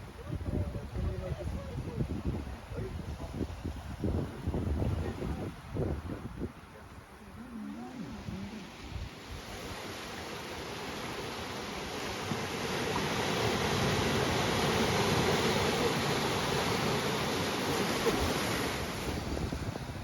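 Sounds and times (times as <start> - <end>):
ocean waves on beach: 0.0 - 20.0.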